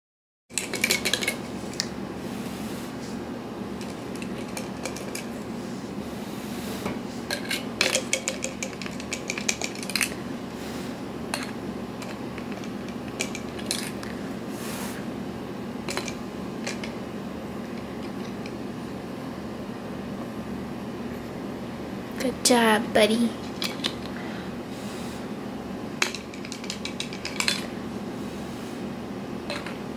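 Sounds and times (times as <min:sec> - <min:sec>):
steady low hum: 0:00.5 - 0:29.9.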